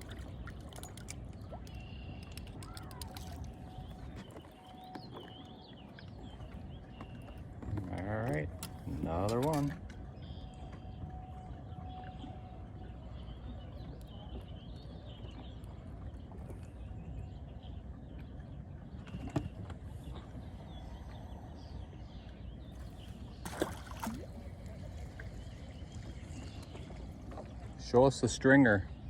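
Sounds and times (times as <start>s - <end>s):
water noise: 0.0s - 29.0s
wind: 0.0s - 29.0s.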